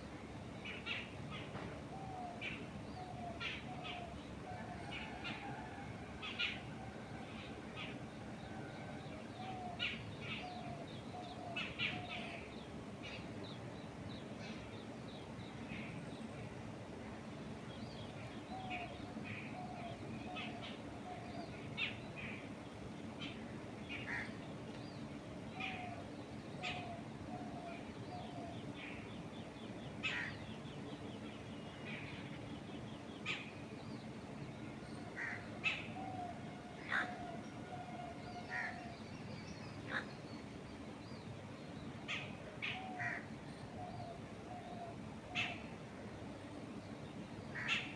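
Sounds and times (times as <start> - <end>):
birds chirping: 0.2 - 47.9.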